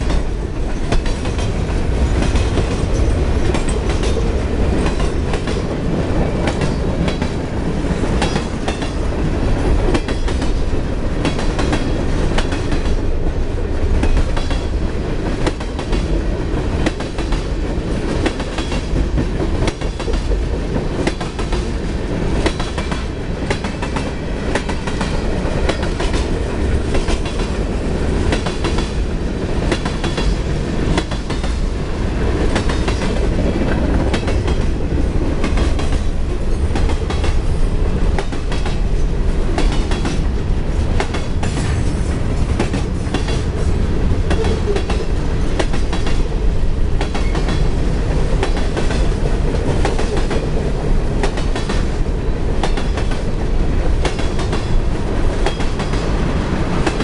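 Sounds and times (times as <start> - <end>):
freight train rumbling past: 0.0 - 57.0
train wheels clicking on rail joints: 0.0 - 57.0.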